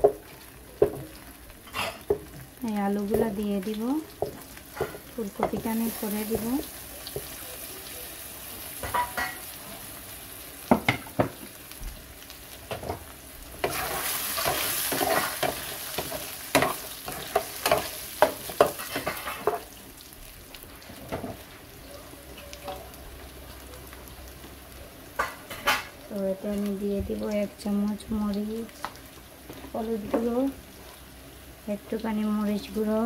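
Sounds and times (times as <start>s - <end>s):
potatoes sizzling in oil: 0.0s - 33.0s.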